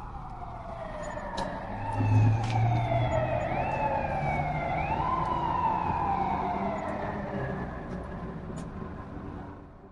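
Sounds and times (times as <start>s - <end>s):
police siren wailing: 0.0s - 8.5s.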